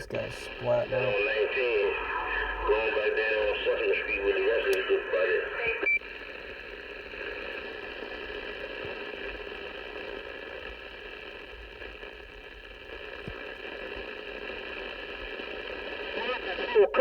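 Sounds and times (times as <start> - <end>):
faint steady tones: 0.0 - 17.0
radio static hiss: 0.0 - 17.0.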